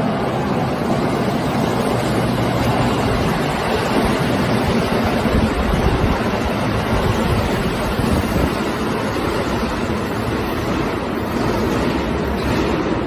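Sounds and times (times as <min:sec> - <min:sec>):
train rushing through station: 0:00.0 - 0:13.0.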